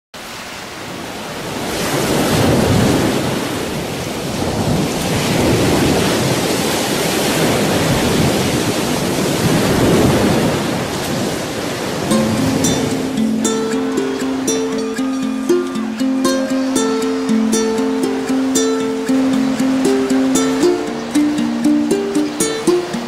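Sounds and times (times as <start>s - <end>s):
surf washing onto beach: 0.2s - 23.0s.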